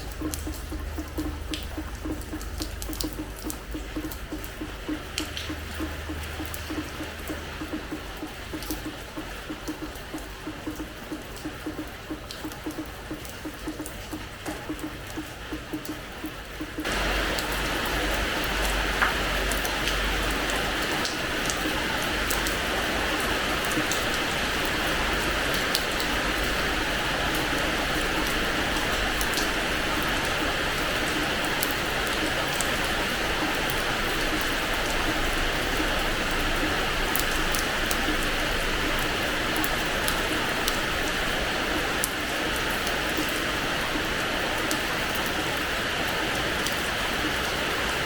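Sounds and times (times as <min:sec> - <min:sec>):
rain hissing on a terrace floor: 0:00.0 - 0:48.0
sharp rain drop ticks: 0:00.0 - 0:48.0.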